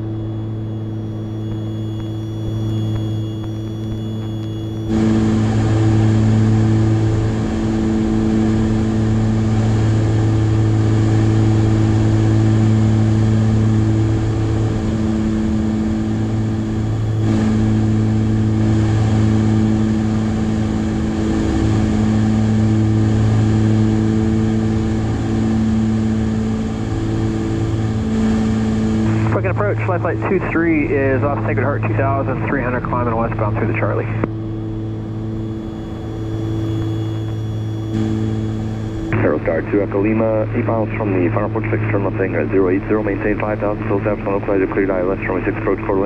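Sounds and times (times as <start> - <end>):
air noise: 0.0 - 42.5
propeller engines droning in cabin: 0.0 - 46.0.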